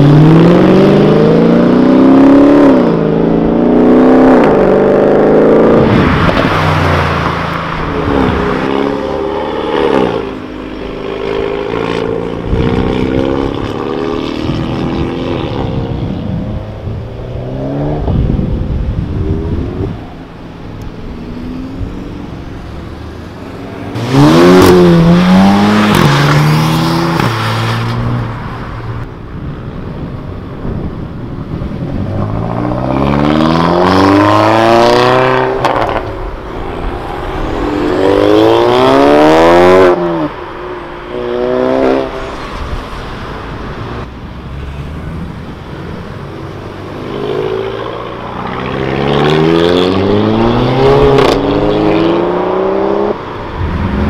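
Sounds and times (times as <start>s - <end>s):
car engines revving under full throttle: 0.0s - 29.1s, 31.5s - 54.0s
traffic noise: 0.0s - 54.0s.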